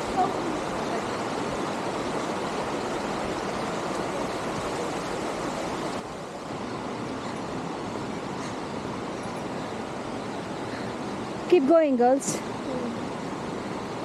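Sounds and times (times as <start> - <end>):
creek flowing over rocks: 0.0 - 14.0.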